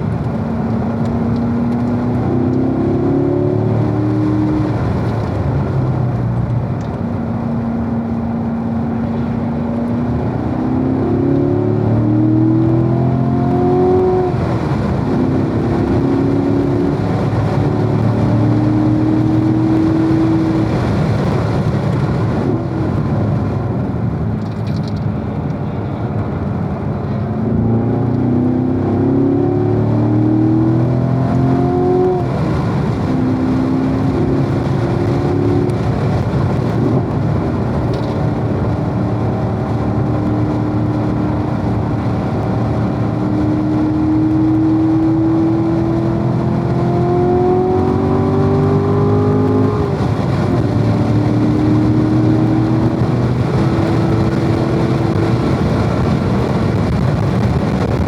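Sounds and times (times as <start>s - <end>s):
car engine accelerating and shifting: 0.0s - 58.0s
wind and road noise: 0.0s - 58.0s.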